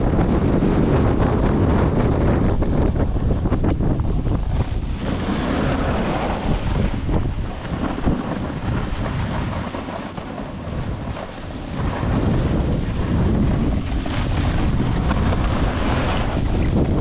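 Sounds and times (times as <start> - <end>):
wind rushing over microphone: 0.0 - 17.0
snowboard sliding on snow: 0.1 - 17.0.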